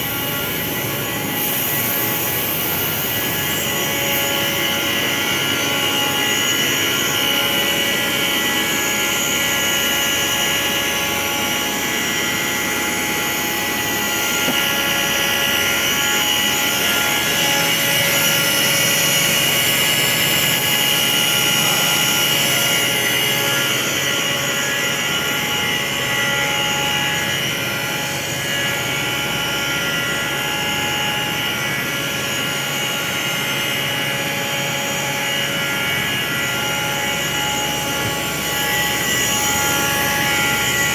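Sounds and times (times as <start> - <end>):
industrial machinery humming: 0.0 - 40.9.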